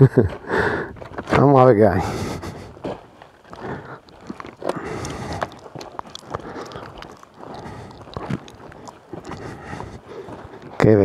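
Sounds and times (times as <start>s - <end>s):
footsteps scuffing and clicking: 0.0s - 11.0s.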